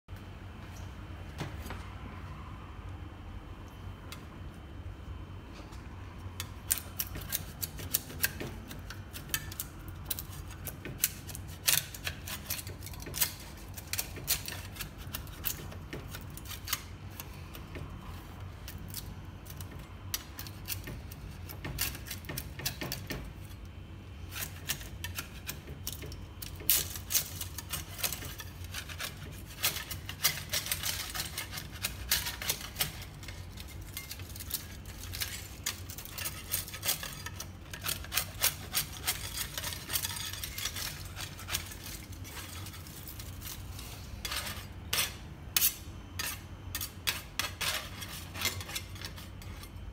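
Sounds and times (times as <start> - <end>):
steady low hum: 0.1 - 49.9
spatula scraping prints off glass: 6.4 - 23.6, 24.2 - 49.9.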